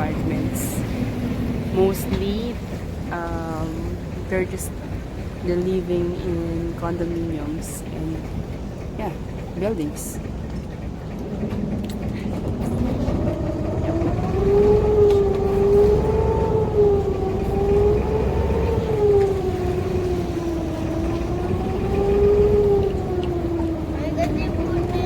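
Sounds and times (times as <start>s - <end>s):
boat motor running: 0.0s - 25.0s.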